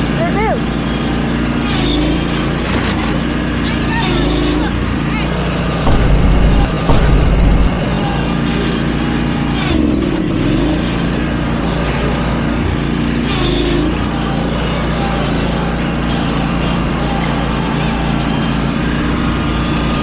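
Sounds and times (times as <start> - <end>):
riding mower engine running: 0.0 - 20.0.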